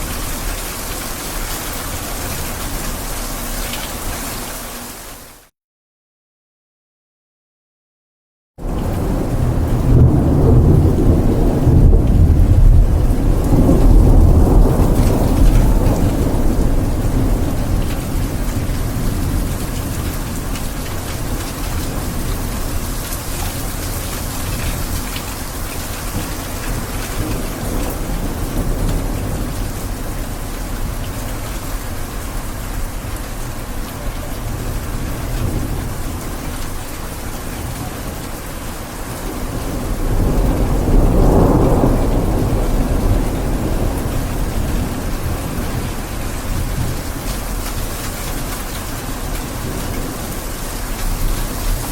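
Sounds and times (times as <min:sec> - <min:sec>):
steady rain: 0:00.0 - 0:05.5, 0:08.6 - 0:51.9
thunder rumble: 0:08.6 - 0:51.9.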